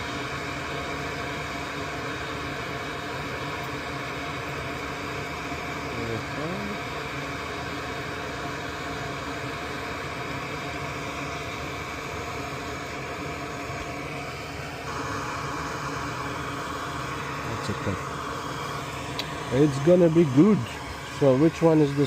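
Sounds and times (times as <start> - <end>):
hot air station hissing: 0.0 - 22.0.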